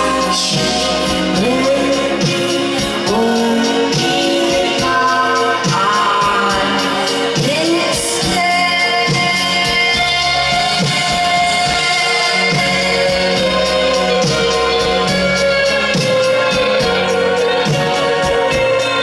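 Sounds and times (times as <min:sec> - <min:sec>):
drums keeping a steady beat: 0:00.0 - 0:19.0
electric guitar chords: 0:00.0 - 0:19.0
keyboard chords: 0:00.0 - 0:19.0
person singing: 0:00.0 - 0:19.0.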